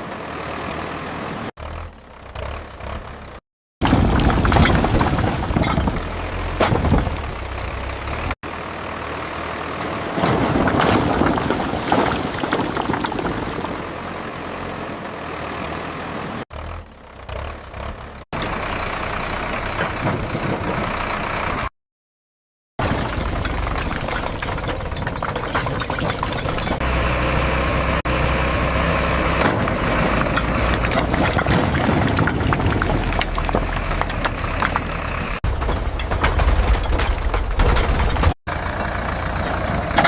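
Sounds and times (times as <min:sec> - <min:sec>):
tractor engine running: 0:00.0 - 0:21.7, 0:22.8 - 0:40.0.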